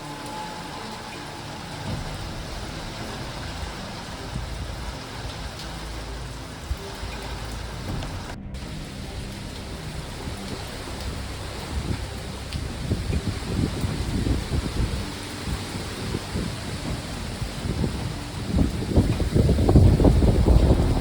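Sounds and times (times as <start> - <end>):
heavy rain falling: 0.0 - 21.0
wind gusts buffeting microphone: 1.6 - 21.0.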